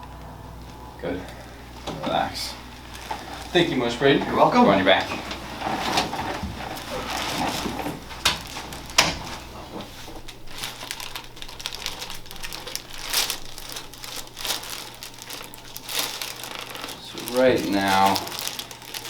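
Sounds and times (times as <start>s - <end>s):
rustling and crinkling: 0.2s - 19.0s.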